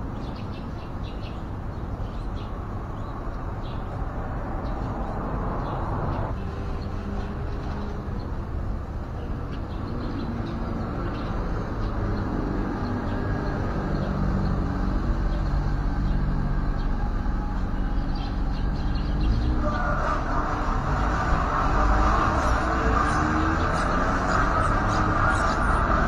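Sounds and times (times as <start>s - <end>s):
engine humming: 1.6s - 26.0s.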